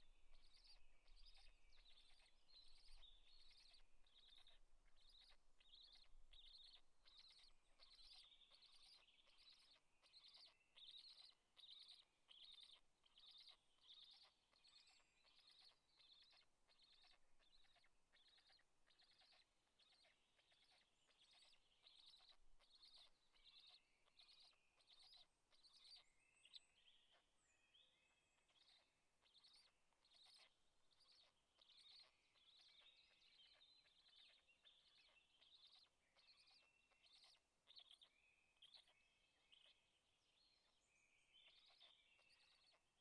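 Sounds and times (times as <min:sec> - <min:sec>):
small birds chirping and trilling: 0:00.0 - 0:43.0.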